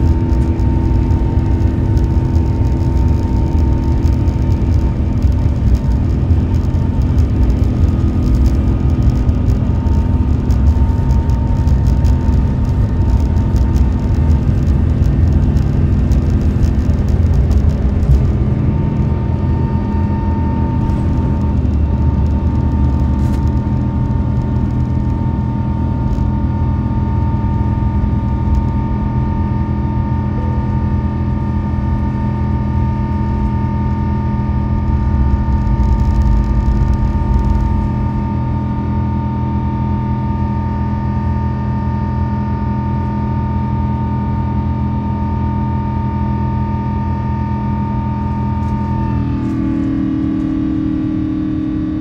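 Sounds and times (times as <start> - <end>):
jet engines droning with fan whine: 0.0 - 52.0
wheels rumbling on runway: 0.0 - 52.0.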